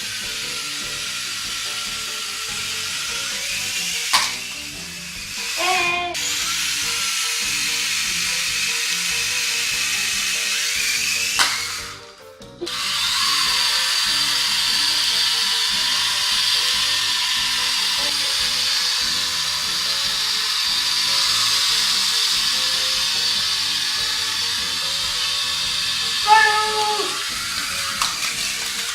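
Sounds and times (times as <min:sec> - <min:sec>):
background music: 0:00.0 - 0:28.9
toy helicopter motor whirring: 0:00.0 - 0:28.9.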